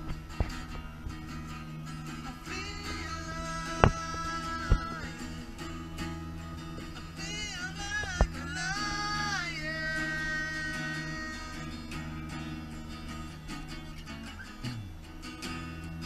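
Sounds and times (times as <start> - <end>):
acoustic guitar: 0.0 - 16.0
bass guitar: 0.0 - 16.0.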